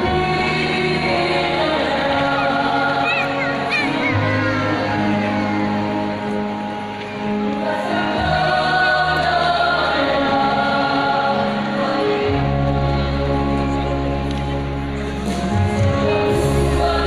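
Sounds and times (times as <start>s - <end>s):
choir singing: 0.0s - 17.0s
low held accompaniment: 0.0s - 17.0s.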